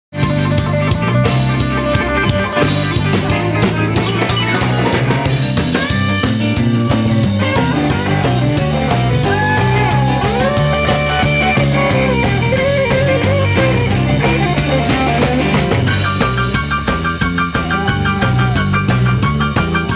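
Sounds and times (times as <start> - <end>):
live rock band playing: 0.1 - 19.9.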